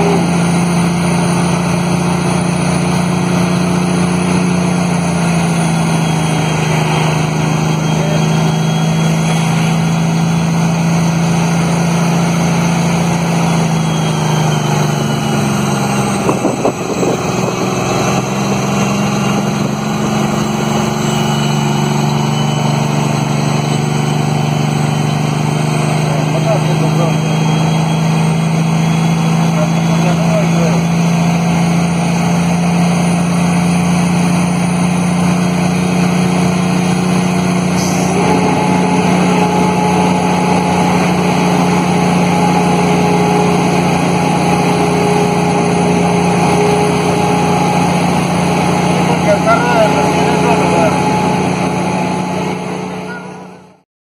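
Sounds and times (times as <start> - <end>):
diesel truck engine braking: 0.0 - 53.8.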